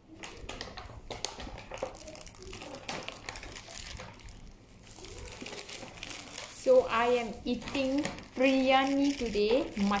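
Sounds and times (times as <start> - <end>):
plastic bag and paper crinkling: 0.1 - 10.0.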